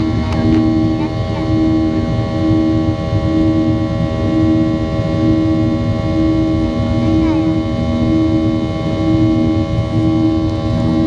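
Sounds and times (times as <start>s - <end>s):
jet engine drone: 0.0s - 11.0s
pulsing low tone: 0.0s - 11.0s.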